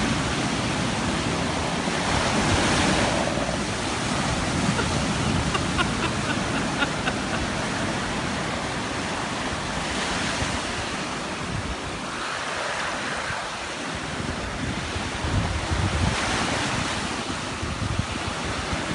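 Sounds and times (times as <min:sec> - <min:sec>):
ocean surf breaking: 0:00.0 - 0:18.9
wind gusting on microphone: 0:00.0 - 0:18.9.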